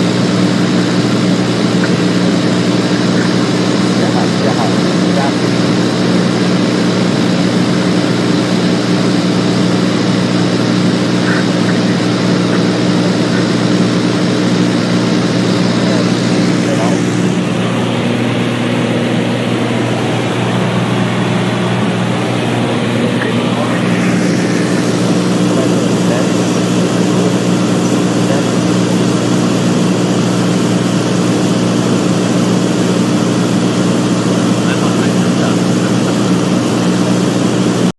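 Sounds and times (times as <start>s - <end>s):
propeller aircraft drone: 0.0s - 37.9s.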